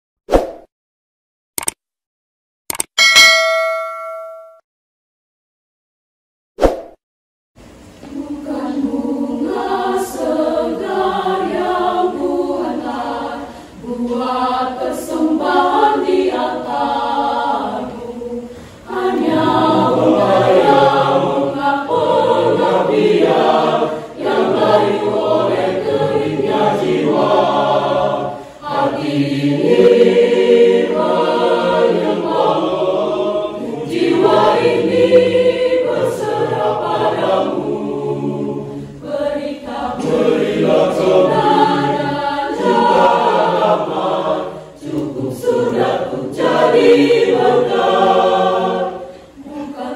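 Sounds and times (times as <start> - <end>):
youth choir singing: 8.0 - 49.9.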